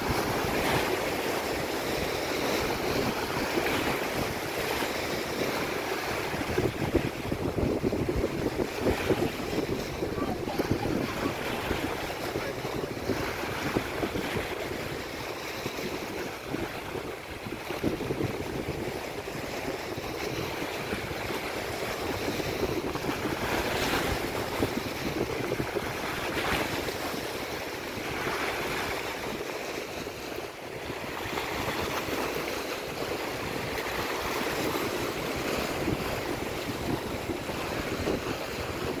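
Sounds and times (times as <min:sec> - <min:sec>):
waves breaking on shore: 0:00.0 - 0:39.0
wind buffeting microphone: 0:00.0 - 0:39.0.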